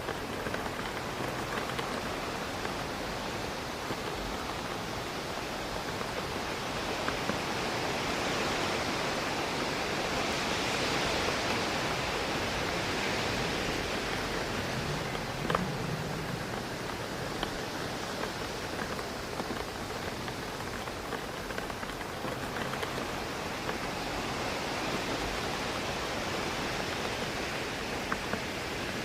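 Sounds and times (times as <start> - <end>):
rain drops ticking on window: 0.0 - 29.0
steady rain: 0.0 - 29.0
wind rushing through trees: 0.0 - 29.0.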